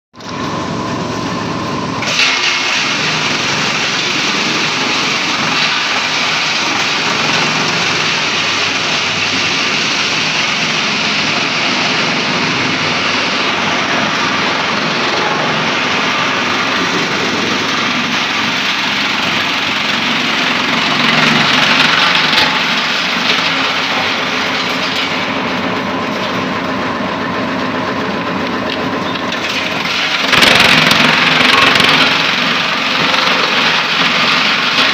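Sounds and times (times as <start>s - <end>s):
wood chipper running: 0.2s - 34.9s.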